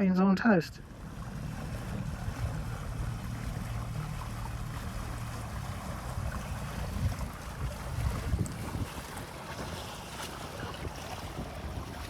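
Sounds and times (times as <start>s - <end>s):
water lapping and trickling: 0.5s - 12.0s
wind rumbling on microphone: 0.8s - 12.0s.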